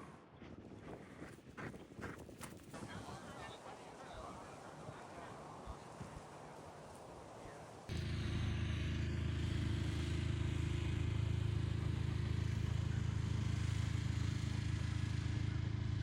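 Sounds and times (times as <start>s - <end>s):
vehicle engine droning: 2.8s - 16.0s.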